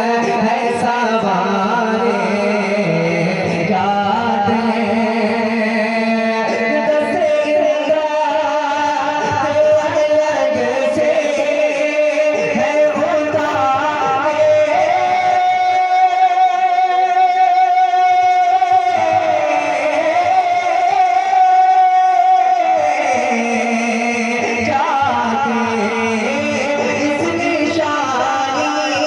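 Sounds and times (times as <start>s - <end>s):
man singing: 0.0s - 29.0s.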